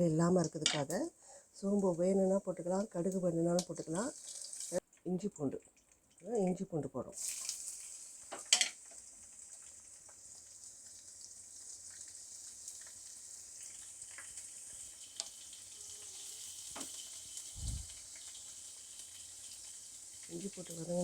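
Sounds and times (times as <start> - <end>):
garlic sizzling in oil: 0.0 - 4.8, 6.2 - 21.0.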